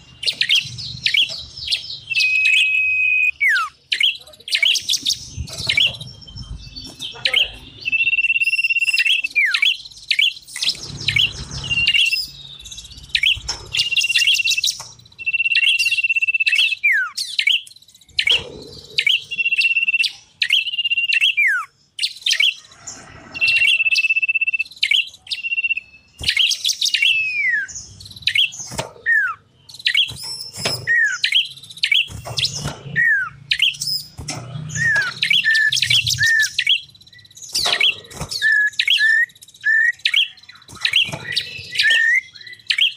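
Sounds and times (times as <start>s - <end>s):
sharp chirping trills: 0.0s - 42.9s
high whistled bird notes: 0.2s - 22.6s, 23.2s - 42.9s.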